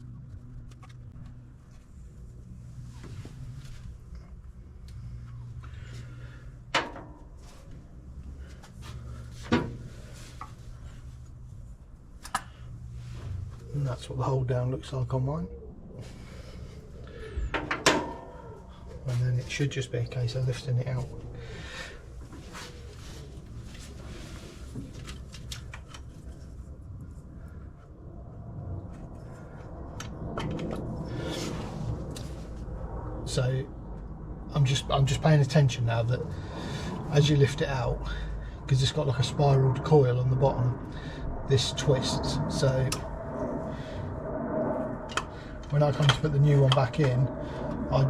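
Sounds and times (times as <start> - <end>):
steady low hum: 0.0 - 48.0
steady low rumble: 0.0 - 48.0.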